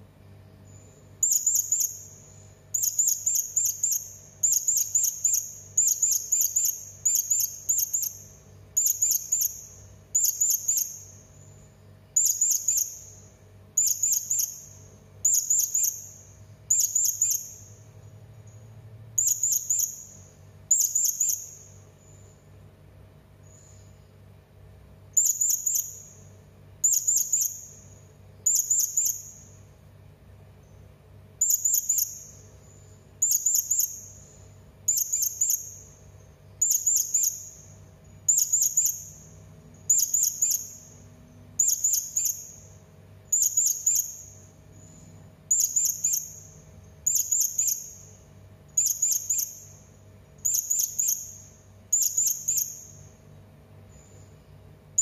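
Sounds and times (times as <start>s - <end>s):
faint low hum: 0.0s - 55.0s.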